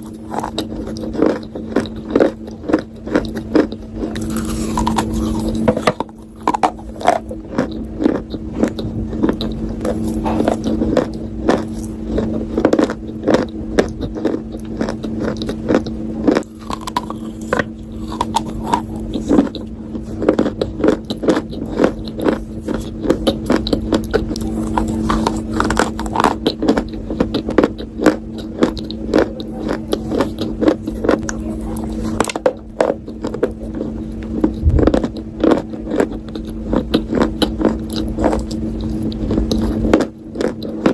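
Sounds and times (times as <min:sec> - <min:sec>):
person chewing crunchy food: 0:00.0 - 0:40.9
steady low hum: 0:00.0 - 0:40.9.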